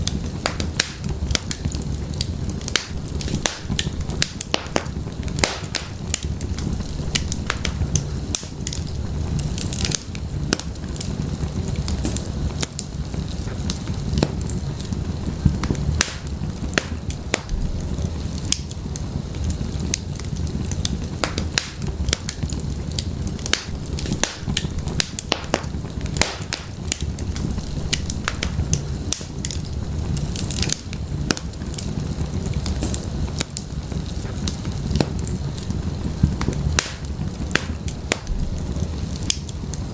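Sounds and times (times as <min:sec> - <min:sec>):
firewood crackling and popping: 0:00.0 - 0:39.9
low rumble of flame: 0:00.0 - 0:39.9.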